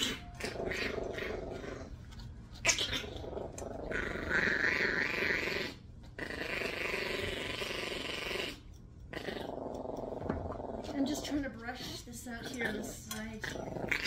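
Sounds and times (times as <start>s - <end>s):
puppy growling: 0.0s - 14.0s.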